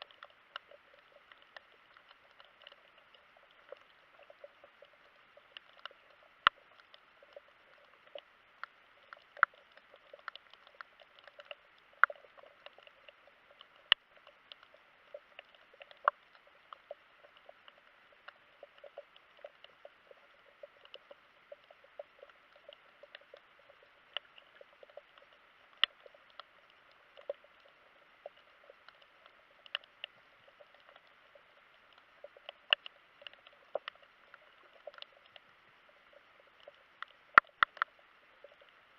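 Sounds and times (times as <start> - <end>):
sharp clicks and snaps: 0.0 - 35.5, 36.1 - 38.7
faint hiss: 0.0 - 38.9
underwater crackle: 0.0 - 38.9.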